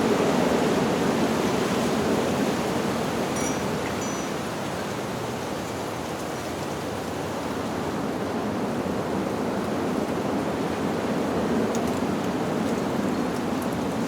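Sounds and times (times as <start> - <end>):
wind rustling tree leaves: 0.0 - 14.0.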